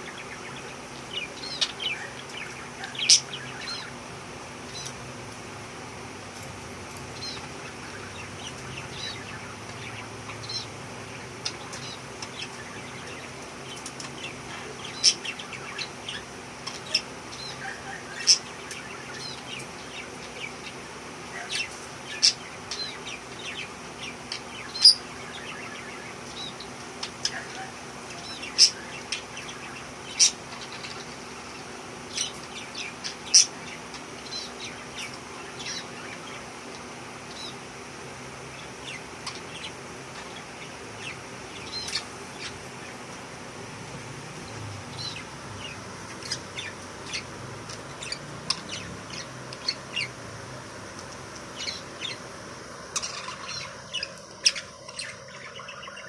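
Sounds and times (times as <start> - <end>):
budgerigars chattering and chirping: 0.0 - 5.1, 6.8 - 37.6, 38.5 - 43.1, 44.2 - 50.2, 51.4 - 56.0
steady low hum: 0.0 - 56.0.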